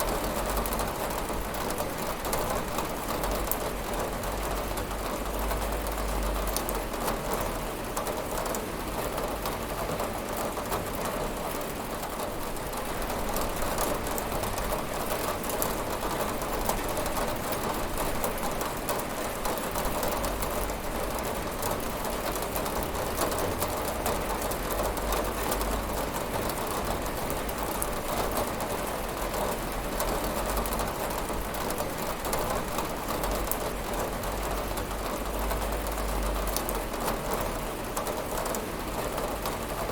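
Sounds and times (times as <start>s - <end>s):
heavy rain on window glass: 0.0s - 39.9s.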